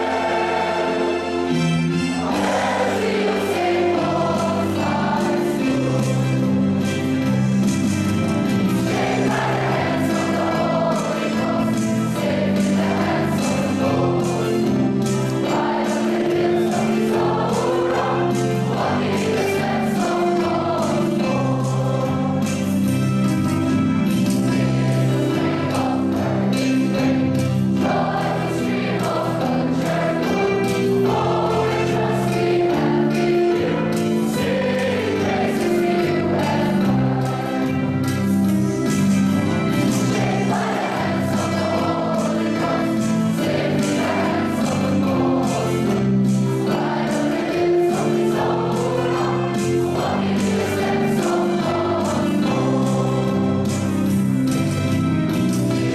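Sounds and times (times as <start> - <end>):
choir singing an anthem: 0.0 - 23.4, 24.0 - 54.5
held accompaniment chords: 0.0 - 55.9.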